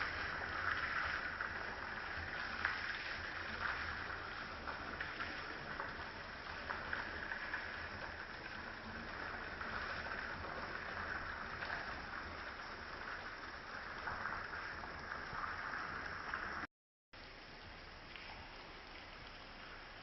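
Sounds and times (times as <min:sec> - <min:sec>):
stream babbling over rocks: 0:00.0 - 0:16.2
small water splashes: 0:00.0 - 0:20.0.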